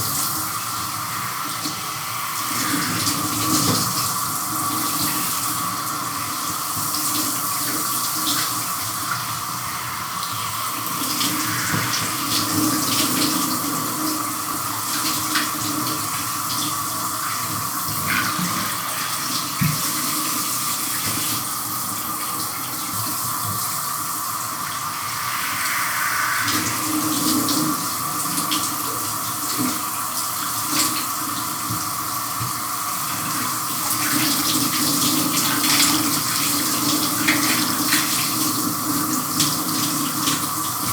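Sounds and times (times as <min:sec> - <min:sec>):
shower spray running: 0:00.0 - 0:40.9.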